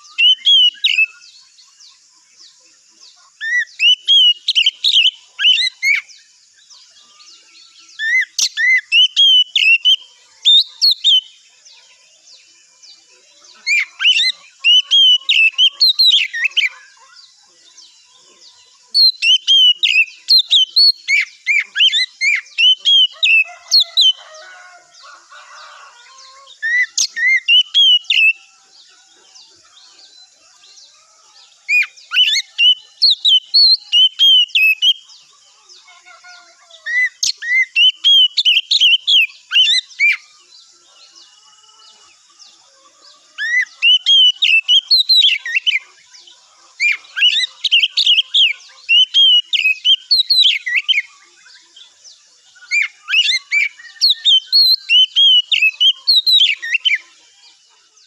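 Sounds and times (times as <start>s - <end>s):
bird singing whistled notes: 0.0s - 2.7s, 3.3s - 24.6s, 26.2s - 42.3s, 43.2s - 58.0s.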